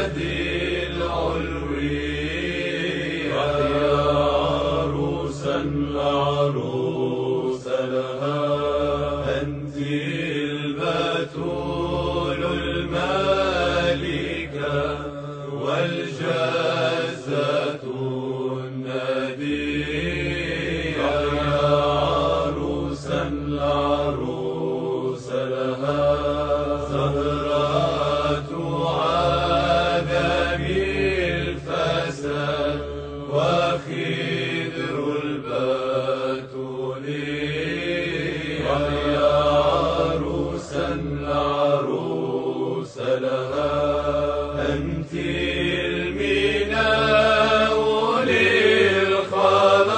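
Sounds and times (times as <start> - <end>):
voices chanting: 0.0 - 49.9.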